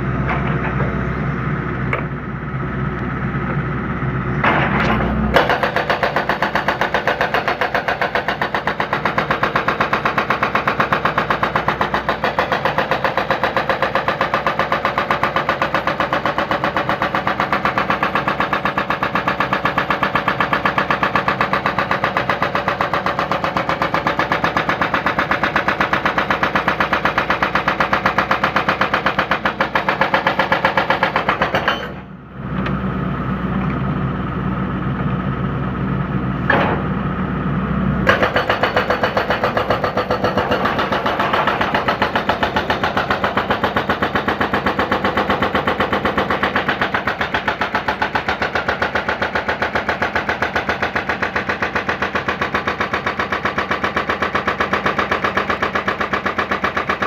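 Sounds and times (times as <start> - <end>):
diesel engine running: 0.0 - 57.0
hydraulic breaker hammering concrete: 4.4 - 32.1, 38.0 - 57.0.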